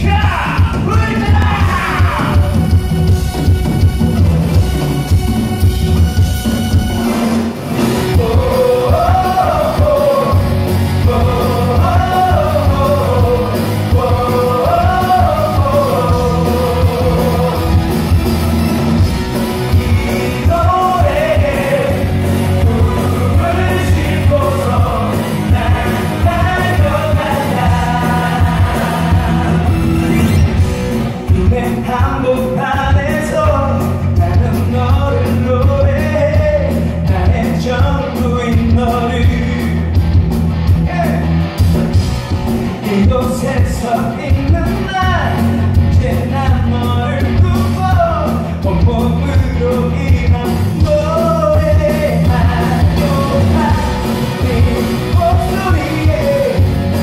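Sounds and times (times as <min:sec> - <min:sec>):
live rock band playing: 0:00.0 - 0:57.0
person singing lead melody: 0:07.8 - 0:39.9, 0:42.7 - 0:57.0.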